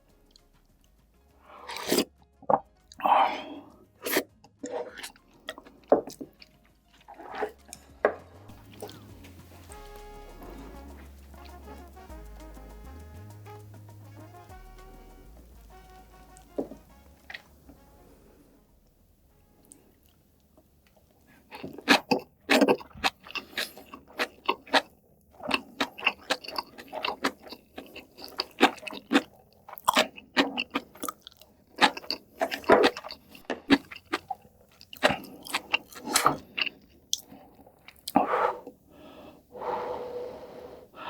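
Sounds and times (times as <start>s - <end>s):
person chewing and crunching food: 1.4s - 12.0s, 15.6s - 18.4s, 19.6s - 40.1s.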